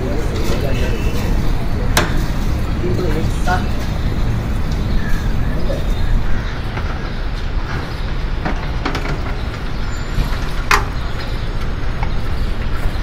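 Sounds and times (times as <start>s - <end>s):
background traffic rumble: 0.0s - 13.0s.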